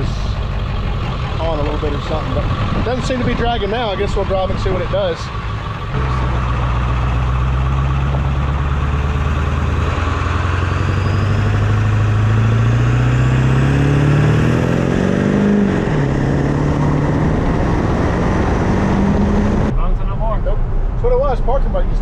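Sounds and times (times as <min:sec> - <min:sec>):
diesel engine accelerating: 0:00.0 - 0:22.0.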